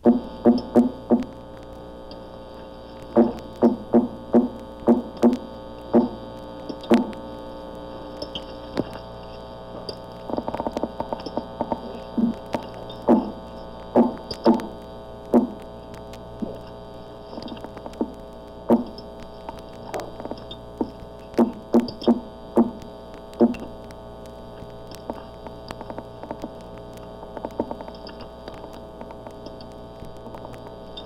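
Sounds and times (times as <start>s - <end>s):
recording hum: 0.0s - 31.0s.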